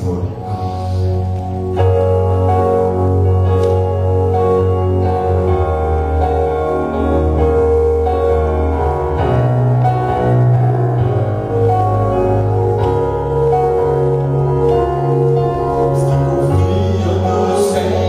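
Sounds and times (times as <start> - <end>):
slow keyboard chords: 0.0 - 18.0.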